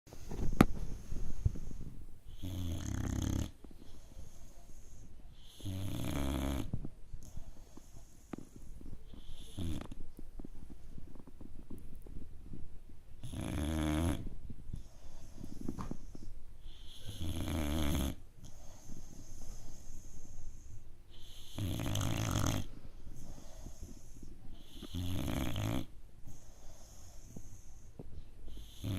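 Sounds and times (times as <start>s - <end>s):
puppy breathing: 0.1s - 28.9s
puppy snoring: 1.4s - 10.5s, 13.2s - 27.9s, 28.5s - 28.9s.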